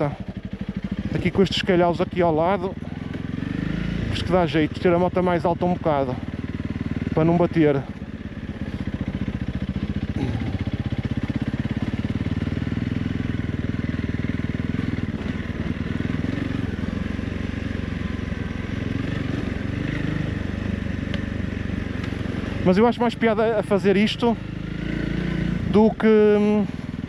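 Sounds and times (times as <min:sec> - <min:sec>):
motorcycle engine at low revs: 0:00.0 - 0:27.0.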